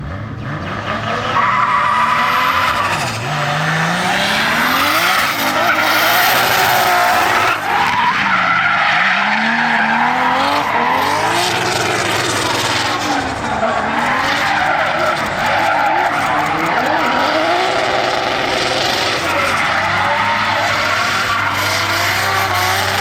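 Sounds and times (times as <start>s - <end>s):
car engine revving: 0.0s - 23.0s
tyres screeching: 1.2s - 23.0s.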